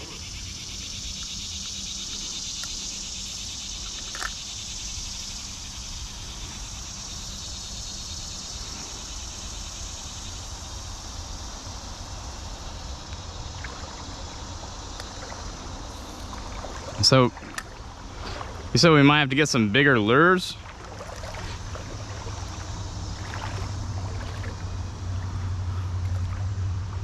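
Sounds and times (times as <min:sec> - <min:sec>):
insects chirring: 0:00.0 - 0:27.0
low wind rumble: 0:00.0 - 0:27.0.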